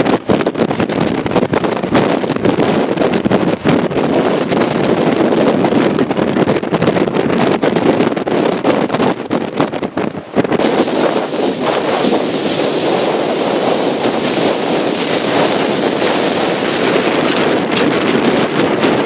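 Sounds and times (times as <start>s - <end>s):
wind blasting across microphone: 0.0s - 19.0s.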